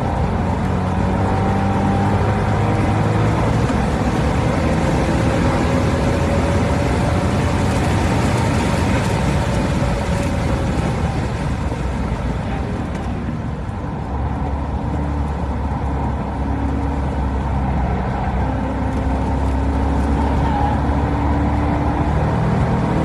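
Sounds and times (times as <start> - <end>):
car engine running hard: 0.0 - 23.0
road noise: 0.0 - 23.0.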